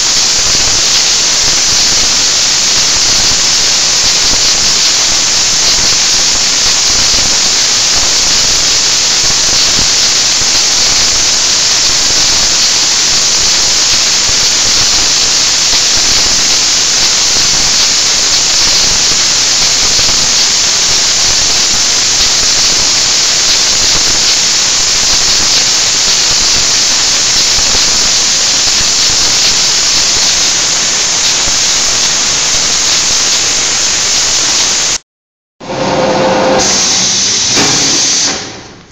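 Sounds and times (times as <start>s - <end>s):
tape rewinding machine hissing: 0.0s - 34.9s.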